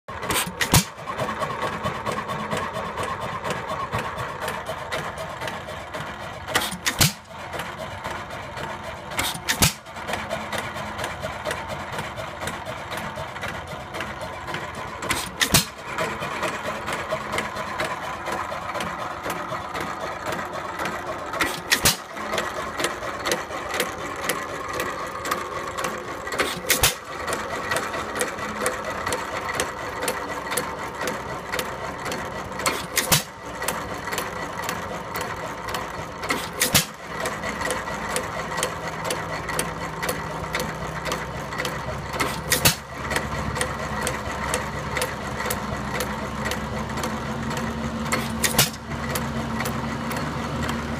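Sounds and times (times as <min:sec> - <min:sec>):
engine parts clattering: 0:00.1 - 0:50.9
engine sharp crack: 0:00.1 - 0:50.9.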